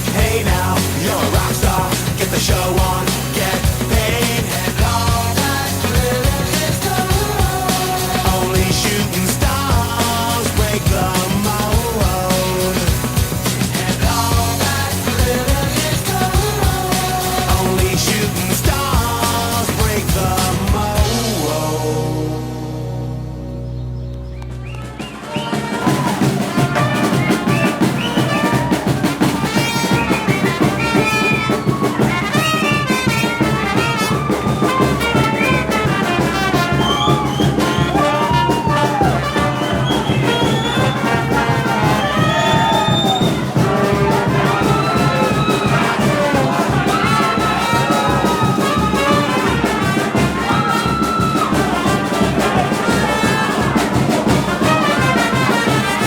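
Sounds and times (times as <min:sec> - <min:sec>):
lively brass music: 0:00.0 - 0:56.0.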